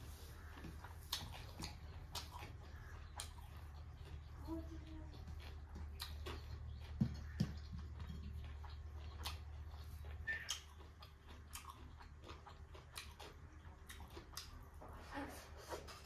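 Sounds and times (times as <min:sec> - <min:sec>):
person chewing: 0:00.0 - 0:14.8
steady low hum: 0:00.0 - 0:16.0.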